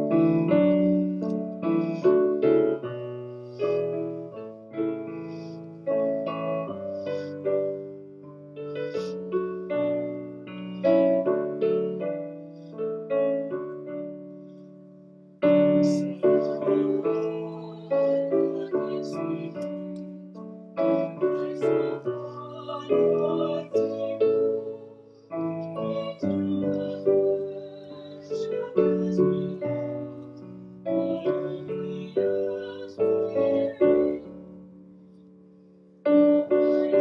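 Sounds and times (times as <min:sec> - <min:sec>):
piano playing hymn chords: 0:00.0 - 0:37.0.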